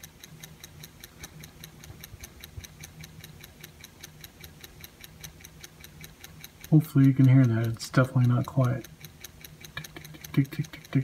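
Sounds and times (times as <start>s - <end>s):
motor ticking: 0.0s - 11.0s.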